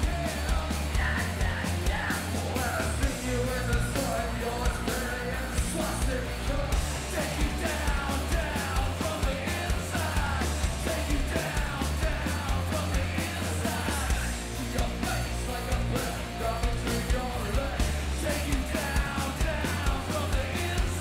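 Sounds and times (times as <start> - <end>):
heavy bass: 0.0 - 21.0
live rock band playing: 0.0 - 21.0
man singing into microphone: 0.0 - 21.0
steady drumbeat: 0.0 - 21.0.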